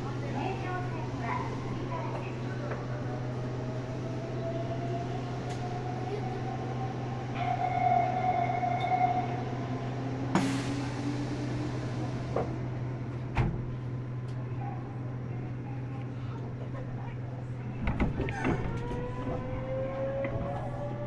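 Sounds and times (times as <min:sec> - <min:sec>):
train equipment low hum: 0:00.0 - 0:21.0.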